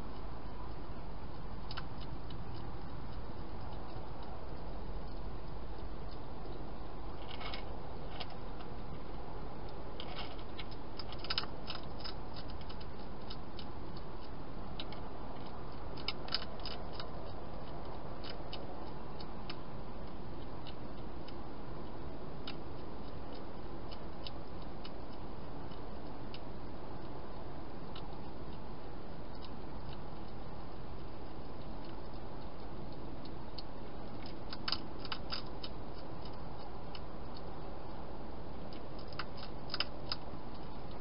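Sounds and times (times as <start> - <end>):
hedgehog crunching food: 0.0 - 41.0.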